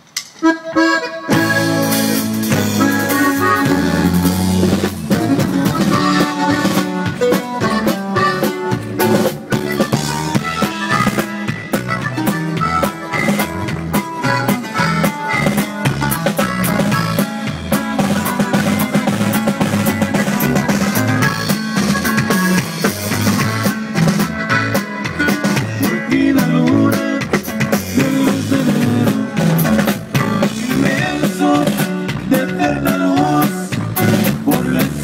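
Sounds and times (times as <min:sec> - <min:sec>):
drum kit beat with rimshots: 0:00.0 - 0:35.0
live band playing: 0:00.0 - 0:35.0
tuba bass line: 0:00.7 - 0:35.0.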